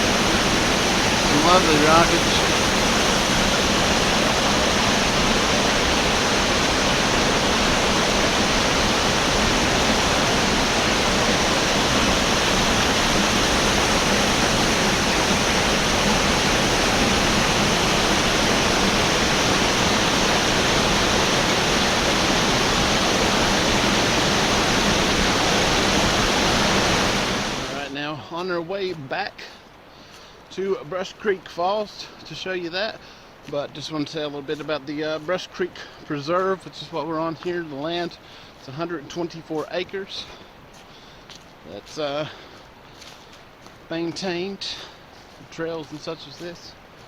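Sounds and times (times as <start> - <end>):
waterfall rushing: 0.0 - 29.3, 29.9 - 47.0.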